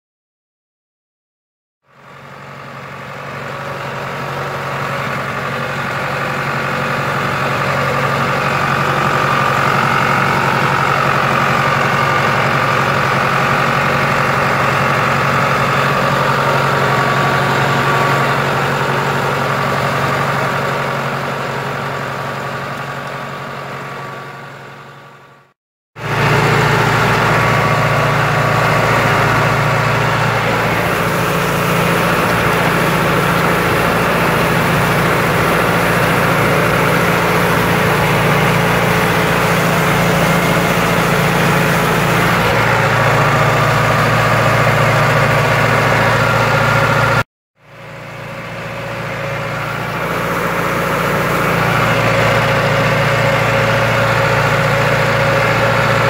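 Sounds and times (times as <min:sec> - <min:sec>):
tractor engine running: 0:01.9 - 0:56.0.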